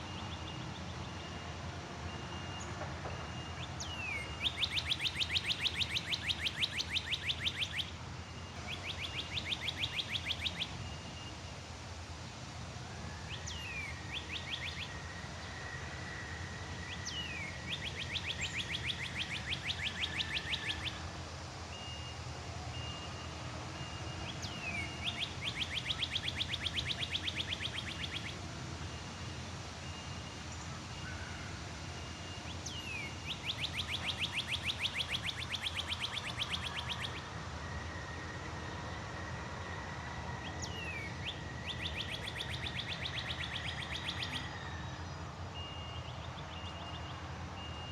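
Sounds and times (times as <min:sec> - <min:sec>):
songbird whistle and trill: 0:00.0 - 0:11.6, 0:12.9 - 0:47.9.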